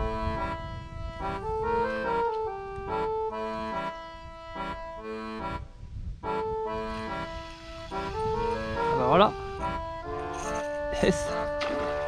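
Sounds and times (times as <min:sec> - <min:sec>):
instrumental melody: 0:00.0 - 0:12.0.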